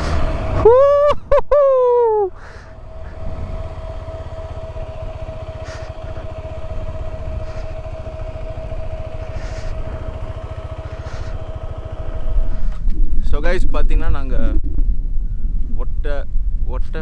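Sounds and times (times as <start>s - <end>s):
high whine: 0.0s - 15.2s
motorcycle engine running: 0.0s - 17.0s.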